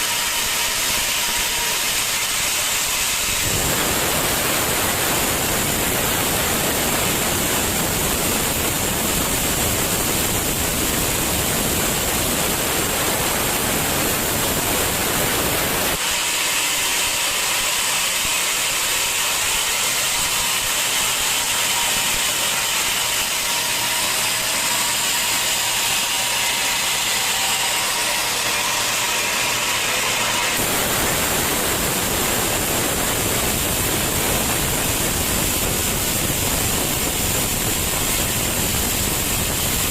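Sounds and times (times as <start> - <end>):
sawmill machinery noise: 0.0 - 39.9.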